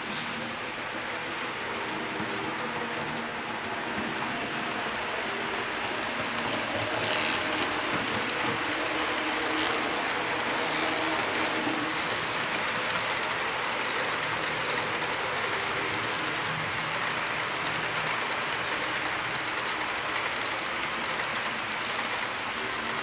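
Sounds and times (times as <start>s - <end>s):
model train wheels on rails: 0.0s - 23.0s.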